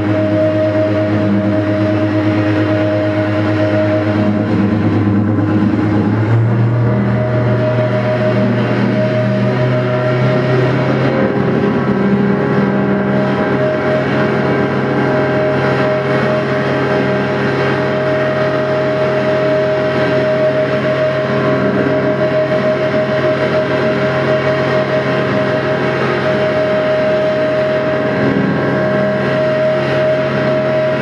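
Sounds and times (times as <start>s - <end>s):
dense wash of noise: 0.0s - 31.0s
high held note: 0.0s - 31.0s
low hum: 0.0s - 31.0s.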